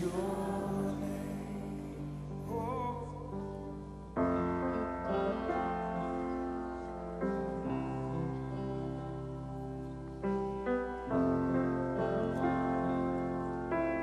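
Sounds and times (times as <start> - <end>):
keyboard sustained chords: 0.0 - 14.0.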